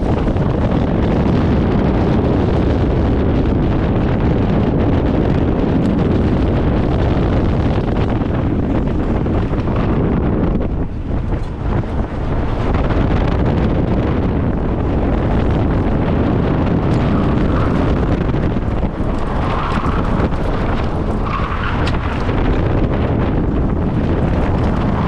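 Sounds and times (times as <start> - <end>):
tyre roar on asphalt: 0.0 - 25.0
wind rushing over microphone: 0.0 - 25.0.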